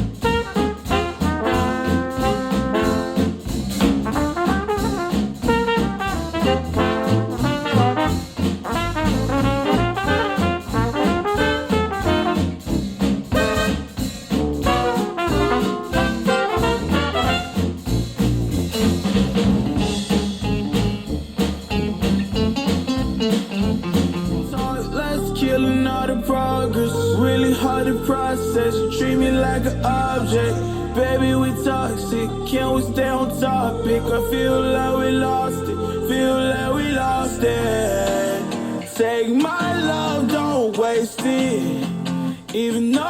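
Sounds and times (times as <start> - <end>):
jazz with trumpet and trombone: 0.0 - 40.5
steady drum beat: 0.0 - 42.1.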